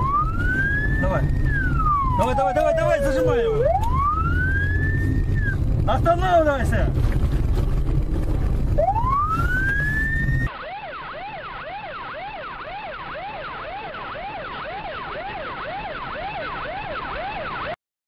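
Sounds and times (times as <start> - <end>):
police siren wailing and yelping: 0.0 - 5.6, 8.8 - 17.8
engine and road noise: 0.0 - 17.8.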